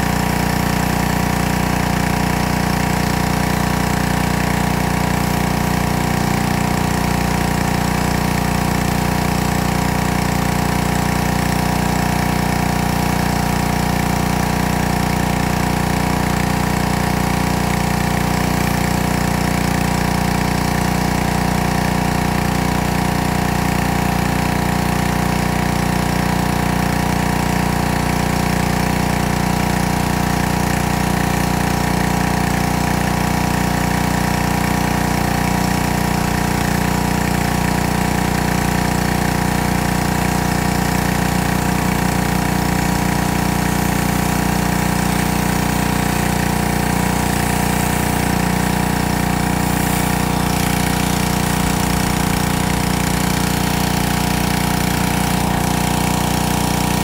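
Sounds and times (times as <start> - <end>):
pressure washer running: 0.0 - 57.0
water jets hissing on stone: 0.0 - 57.0.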